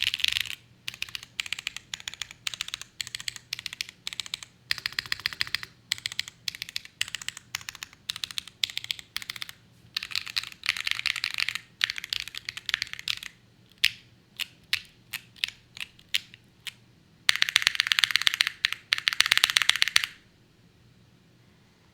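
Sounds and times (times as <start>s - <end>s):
mechanical keyboard typing: 0.0s - 20.2s.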